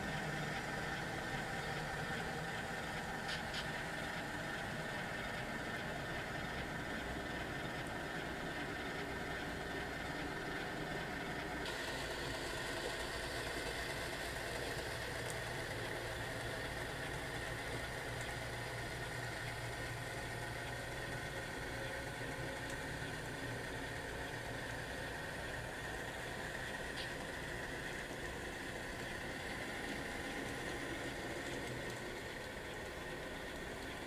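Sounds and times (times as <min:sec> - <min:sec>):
model train running: 0:00.0 - 0:34.0.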